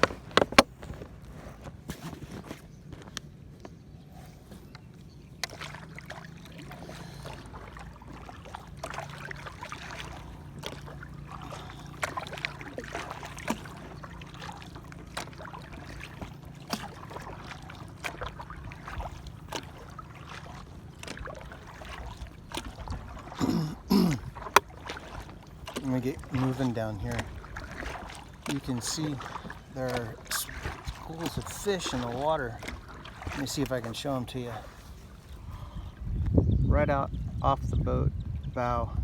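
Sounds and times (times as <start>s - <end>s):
paddle splashing in water: 0.0s - 36.0s.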